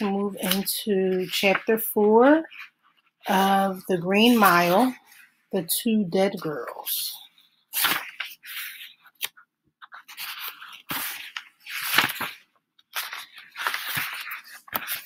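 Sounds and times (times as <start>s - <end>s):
book pages rustling: 0.3s - 5.3s, 6.6s - 15.0s.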